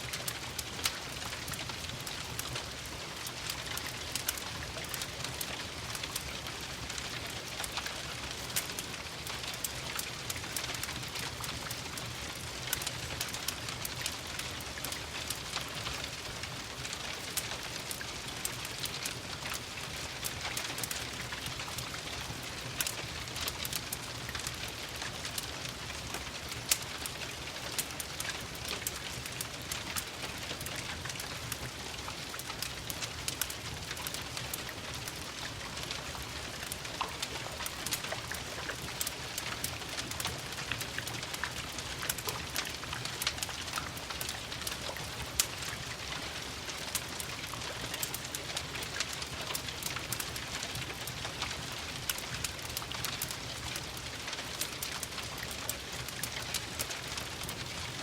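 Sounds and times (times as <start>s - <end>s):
steady rain: 0.0s - 58.0s
wood fire crackling and popping: 0.0s - 58.0s.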